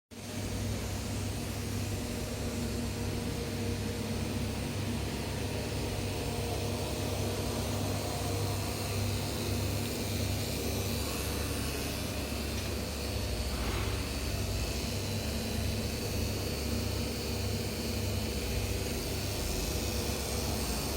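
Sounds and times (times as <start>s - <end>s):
plasma cutter electrical hum: 0.1s - 20.9s
plasma cutter hiss: 0.2s - 20.9s.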